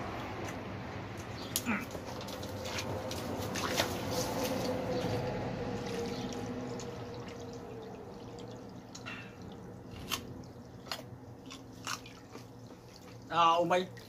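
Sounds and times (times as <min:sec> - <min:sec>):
water trickling and dripping: 0:00.5 - 0:14.0.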